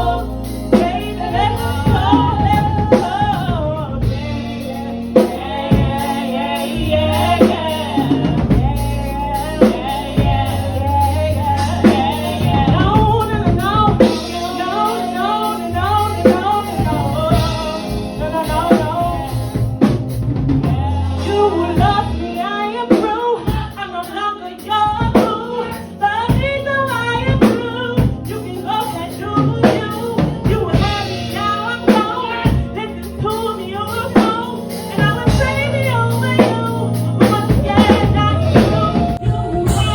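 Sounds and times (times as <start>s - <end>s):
person singing: 0.0s - 19.8s, 20.6s - 39.9s
drum kit playing a steady beat: 0.0s - 39.9s.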